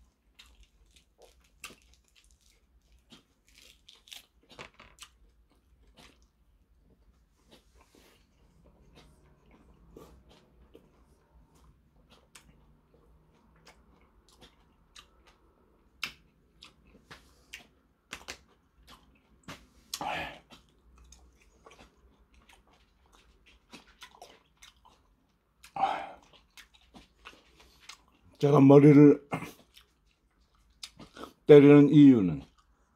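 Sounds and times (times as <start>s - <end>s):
person chewing food: 0.0s - 28.4s, 29.2s - 31.5s, 32.3s - 32.9s.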